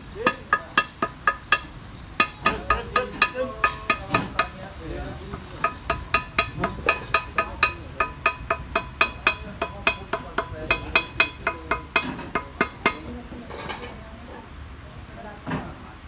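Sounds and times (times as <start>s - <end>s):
light hammer taps on metal: 0.2s - 13.2s.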